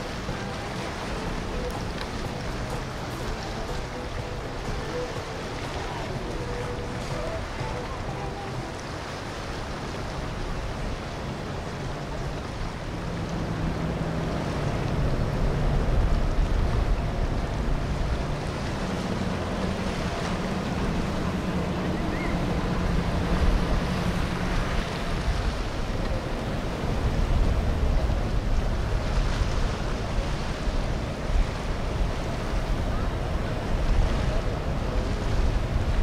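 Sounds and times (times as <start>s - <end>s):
boat engines running: 0.0s - 36.0s
water wash: 0.0s - 36.0s
wind buffeting microphone: 0.0s - 36.0s.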